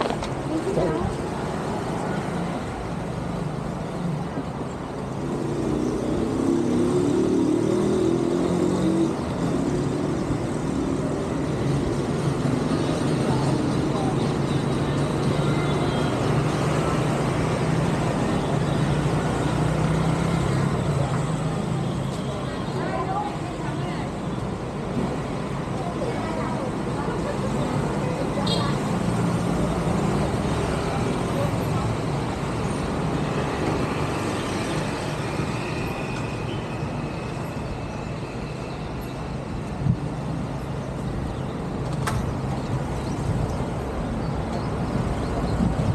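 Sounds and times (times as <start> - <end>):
low traffic hum: 0.0 - 45.9.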